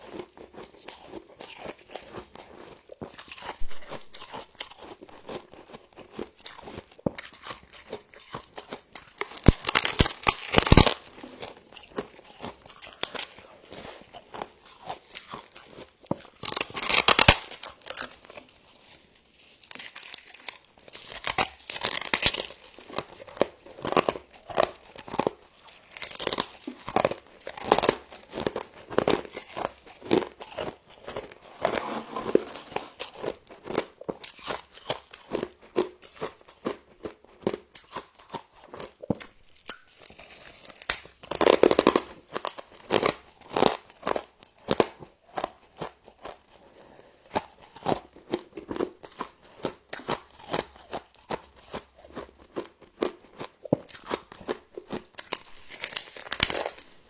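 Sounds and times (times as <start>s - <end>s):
frost being crunched and chewed: 0.0s - 31.5s, 32.5s - 57.0s.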